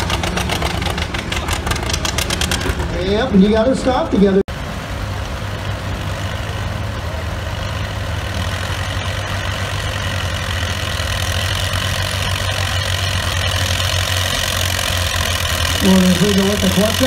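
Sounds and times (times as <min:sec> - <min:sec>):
tractor engines idling: 0:00.0 - 0:17.0.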